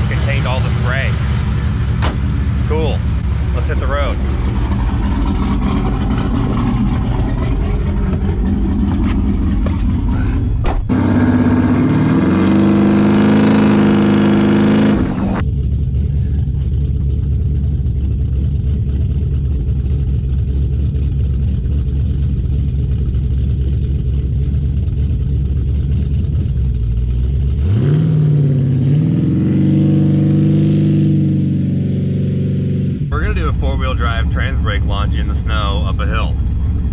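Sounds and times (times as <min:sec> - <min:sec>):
car engine revving: 0:00.0 - 0:22.8, 0:24.4 - 0:36.9.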